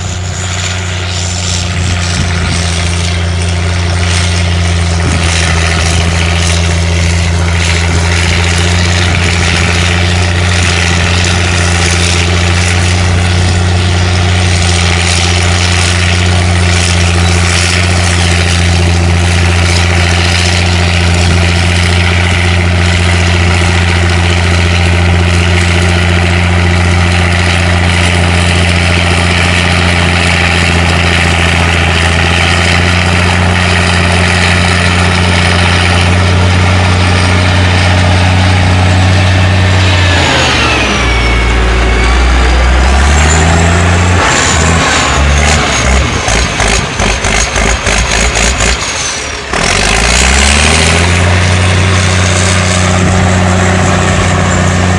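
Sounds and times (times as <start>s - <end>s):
bulldozer diesel engine humming: 0.0s - 54.9s.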